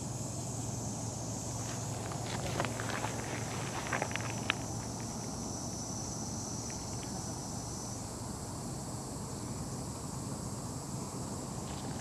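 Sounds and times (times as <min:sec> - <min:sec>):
high-pitched insect chorus: 0:00.0 - 0:12.0
low steady rumble: 0:00.0 - 0:12.0.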